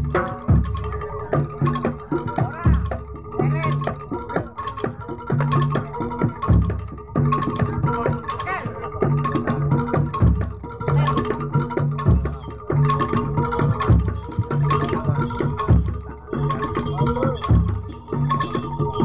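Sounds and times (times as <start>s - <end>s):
percussion ensemble playing: 0.0s - 19.0s.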